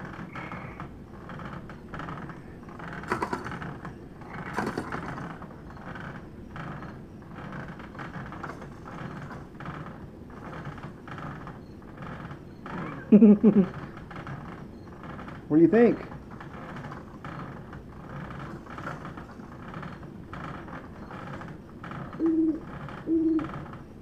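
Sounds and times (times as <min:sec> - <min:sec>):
baby swing running: 0:00.0 - 0:24.0
clattering rattles: 0:00.0 - 0:24.0.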